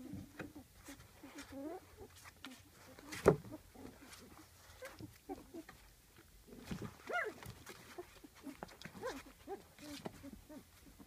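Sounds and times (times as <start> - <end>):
puppies whining and squeaking: 0.0 - 11.0.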